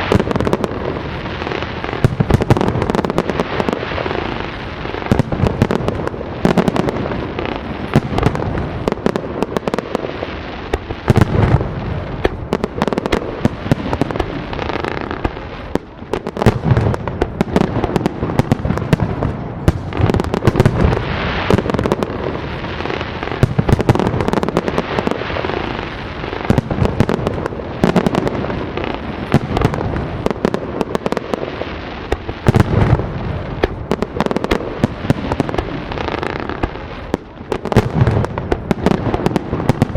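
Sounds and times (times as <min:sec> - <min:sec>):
deep fireworks booms: 0:00.0 - 0:39.9
fireworks crackling and banging: 0:00.0 - 0:39.9.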